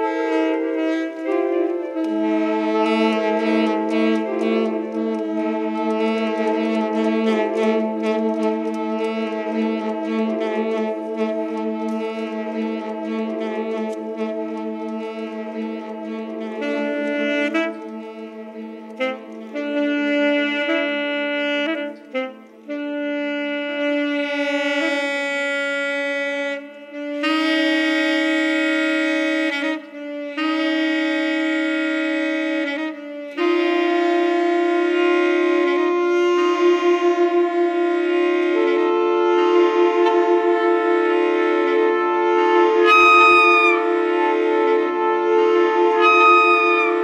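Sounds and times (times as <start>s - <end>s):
looped saxophone notes: 0.0s - 47.0s.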